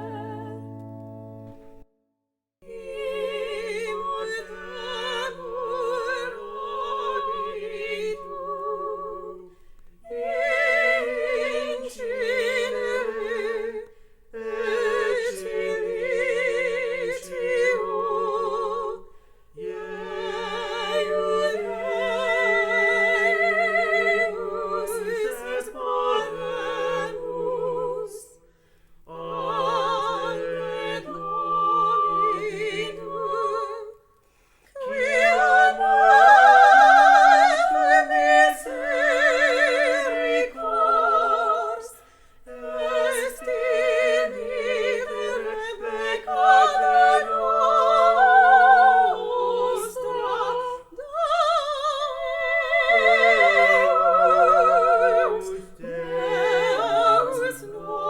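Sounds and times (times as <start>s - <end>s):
voices singing in parts: 2.6s - 28.4s, 29.1s - 34.1s, 34.8s - 58.0s.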